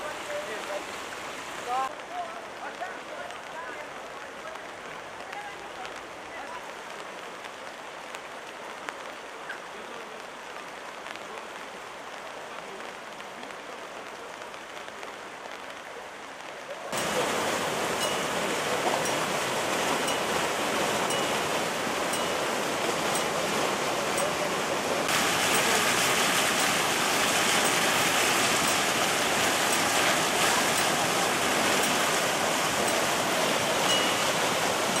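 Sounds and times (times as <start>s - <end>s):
floodwater rushing roar: 0.0s - 35.0s.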